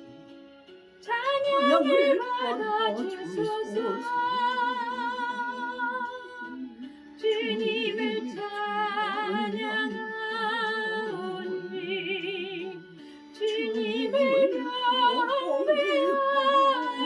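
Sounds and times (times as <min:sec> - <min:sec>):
karaoke backing track: 0:01.0 - 0:17.0
person singing gospel song: 0:01.1 - 0:12.8, 0:13.4 - 0:17.0.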